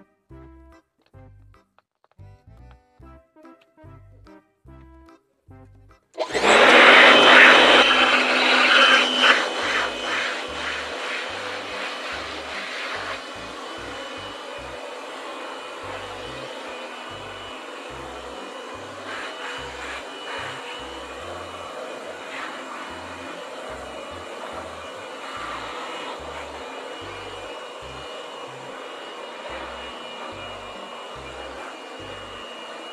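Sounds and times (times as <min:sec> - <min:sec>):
electric air blower whooshing: 0:06.2 - 0:32.9.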